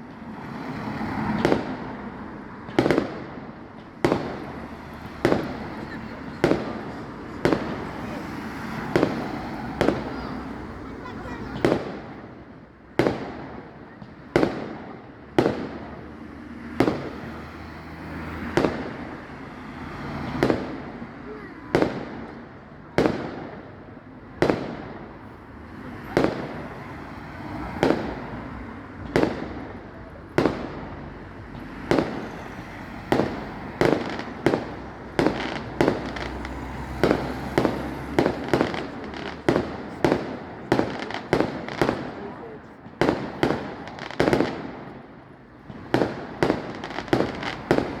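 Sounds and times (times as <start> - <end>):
fireworks bursting with sharp bangs: 0.0 - 48.0.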